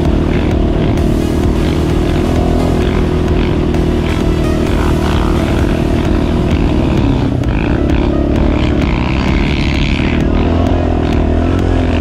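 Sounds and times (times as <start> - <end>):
quad bike engine droning: 0.0 - 12.0.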